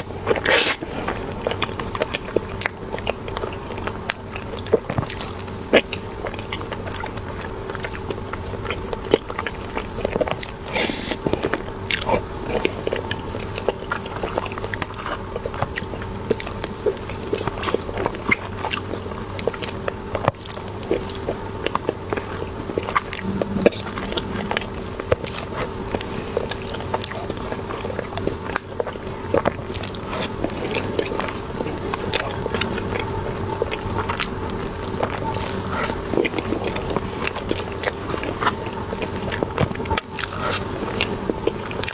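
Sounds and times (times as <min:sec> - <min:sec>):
person chewing bread: 0:00.0 - 0:23.2, 0:26.4 - 0:41.9
faint steady hum: 0:00.0 - 0:41.9.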